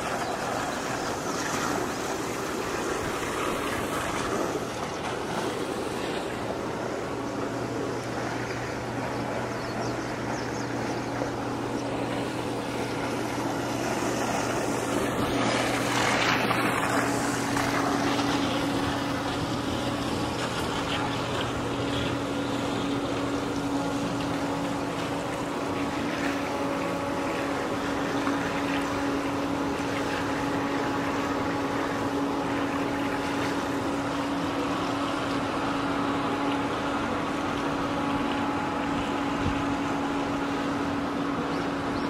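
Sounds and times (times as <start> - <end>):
pool pump humming: 0.0 - 42.0
water spilling over edge: 0.0 - 42.0.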